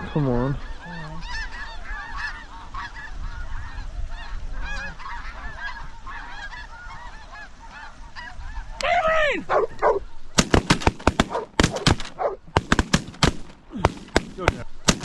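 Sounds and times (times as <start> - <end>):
geese yelping and honking: 0.0 - 15.0.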